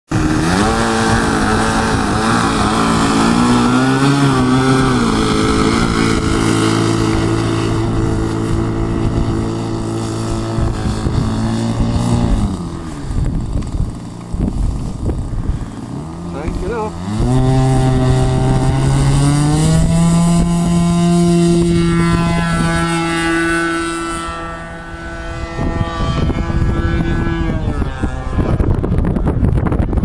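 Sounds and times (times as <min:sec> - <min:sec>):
model aircraft engine running: 0:00.1 - 0:30.0
wind buffeting microphone: 0:00.1 - 0:30.0.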